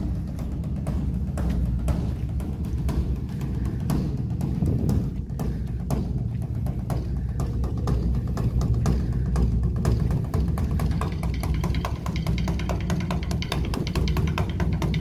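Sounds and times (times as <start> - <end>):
rapid drum stick strikes: 0.0 - 15.0.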